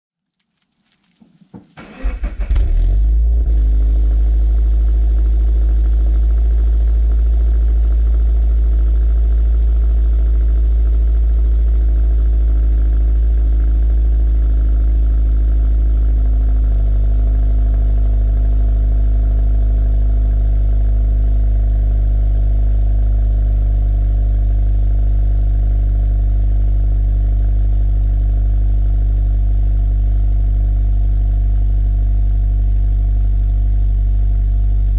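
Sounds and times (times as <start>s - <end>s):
car engine idling: 1.8s - 34.9s.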